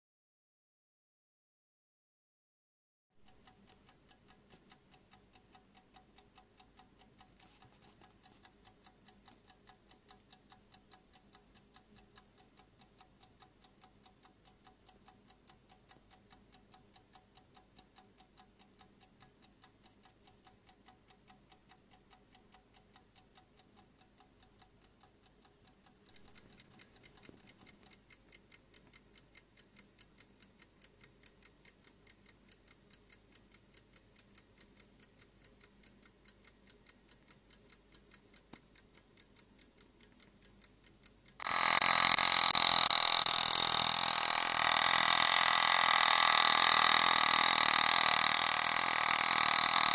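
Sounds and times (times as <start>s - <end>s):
alarm clock ticking fast: 3.2s - 49.9s.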